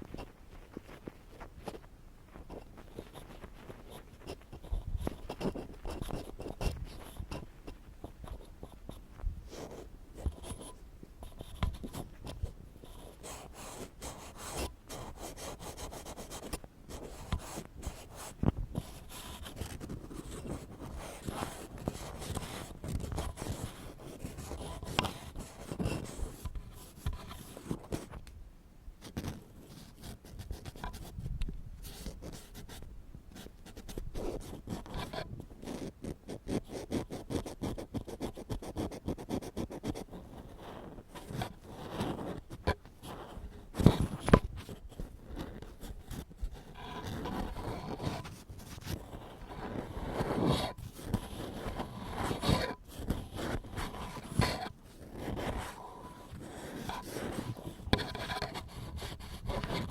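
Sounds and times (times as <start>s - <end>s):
ear pick scraping microphone: 0.0s - 28.3s, 40.1s - 59.9s.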